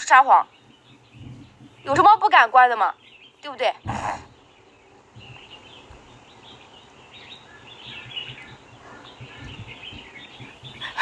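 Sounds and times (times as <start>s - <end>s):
outdoor background hiss: 0.0s - 11.0s
small birds chirping: 0.0s - 11.0s
soft low bumps: 0.5s - 2.5s, 3.7s - 11.0s.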